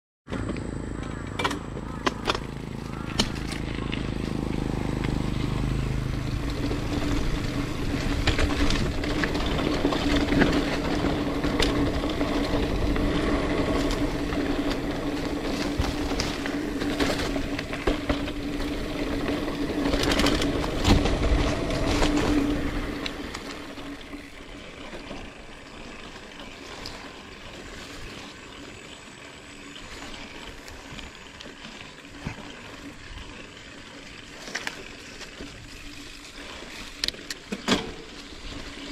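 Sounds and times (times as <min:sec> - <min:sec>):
bike rattling and knocking: 0:00.3 - 0:38.9
bike tyres humming on dirt: 0:00.3 - 0:38.9.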